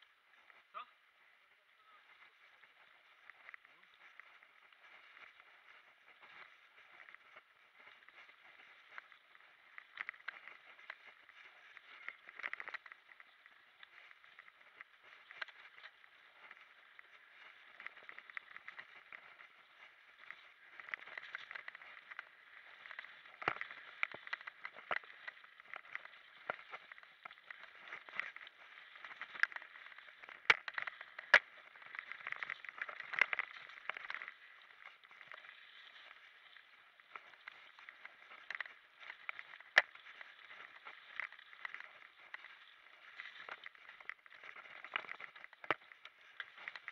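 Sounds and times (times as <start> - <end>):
bike rattling over roots: 2.1 - 46.9.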